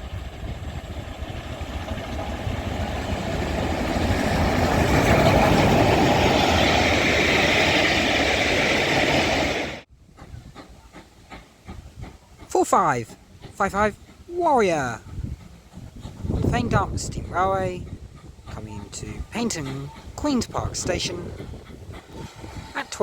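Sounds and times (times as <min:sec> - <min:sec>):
steam train running: 0:00.0 - 0:23.0.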